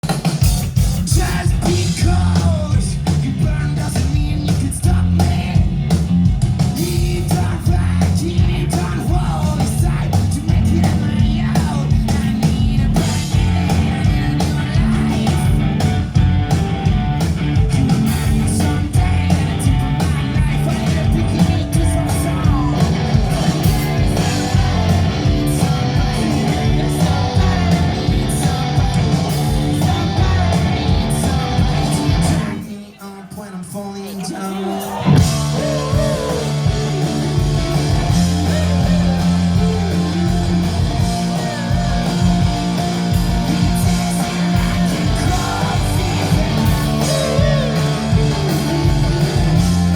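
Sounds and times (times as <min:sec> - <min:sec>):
rock band playing live: 0:00.0 - 0:49.9.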